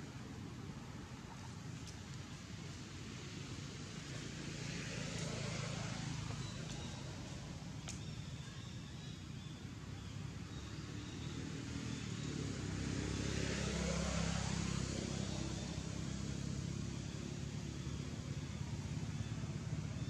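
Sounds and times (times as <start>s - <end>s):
vehicle passing by: 2.2s - 20.0s.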